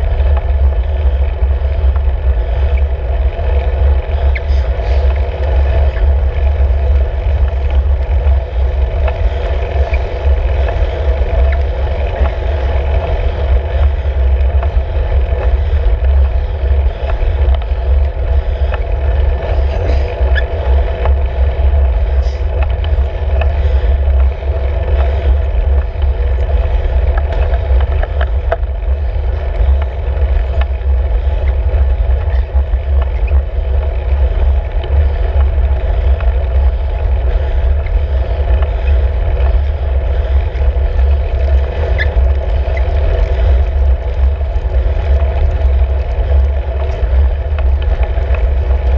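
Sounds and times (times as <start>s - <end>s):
wind and road rumble on microphone: 0.0s - 48.9s
faint ticks: 3.4s - 21.3s, 22.1s - 48.9s.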